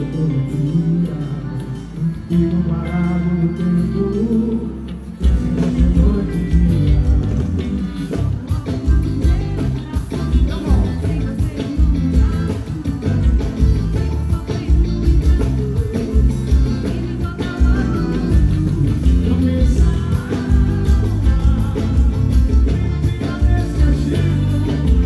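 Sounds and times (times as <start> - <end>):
live band music: 0.0 - 25.0
woman singing: 0.0 - 25.0.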